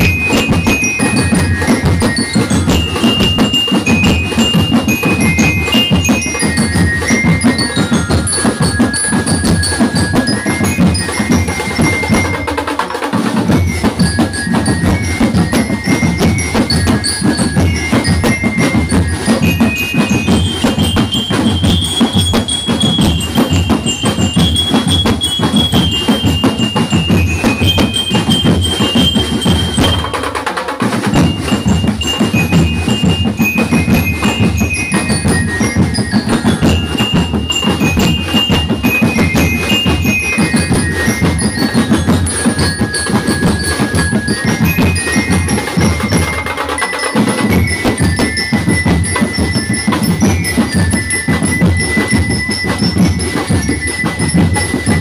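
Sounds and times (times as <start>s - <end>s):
bell lyre melody: 0.0s - 30.4s, 31.1s - 55.0s
steady drumming: 0.0s - 55.0s.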